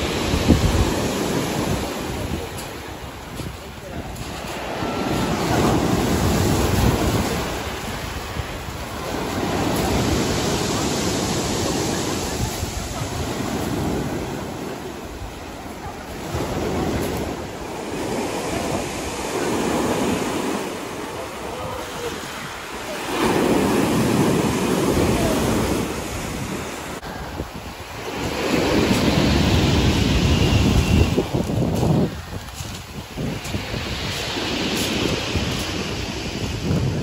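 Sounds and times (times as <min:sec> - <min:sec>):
surf on pebble beach: 0:00.0 - 0:37.0
wind buffeting microphone: 0:00.0 - 0:37.0.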